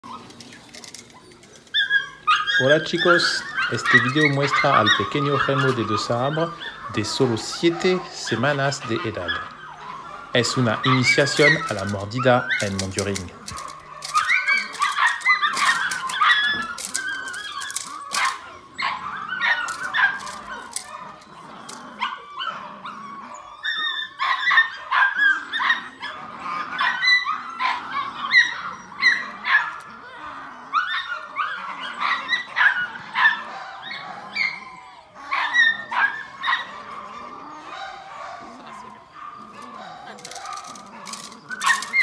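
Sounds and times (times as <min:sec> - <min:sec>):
puppy yapping and barking: 0:00.0 - 0:42.0.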